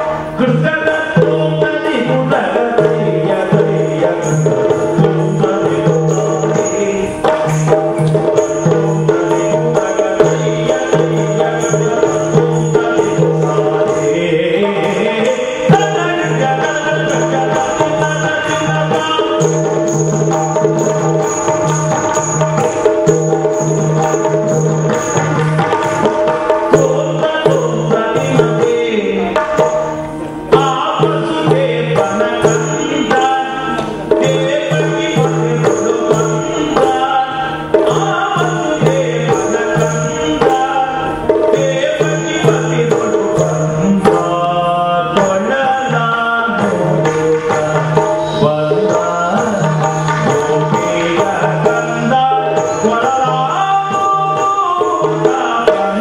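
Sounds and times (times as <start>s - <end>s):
drums beating a steady rhythm: 0.0s - 56.0s
hand cymbals ringing: 0.0s - 56.0s.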